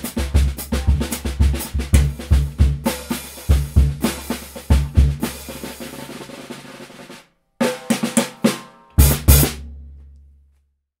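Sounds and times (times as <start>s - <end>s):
snare drum playing: 0.0s - 9.7s.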